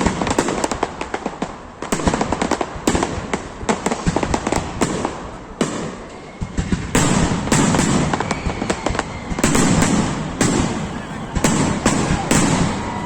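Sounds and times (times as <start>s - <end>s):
fireworks bangs and crackles: 0.0s - 13.0s
heavy fireworks booms: 0.0s - 13.0s.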